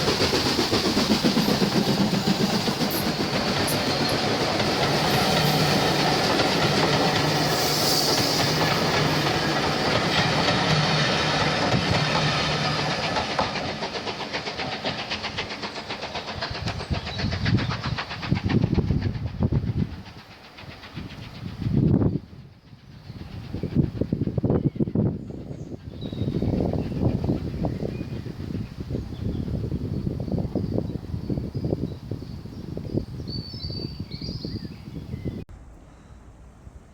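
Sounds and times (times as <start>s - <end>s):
train running past: 0.0s - 36.9s.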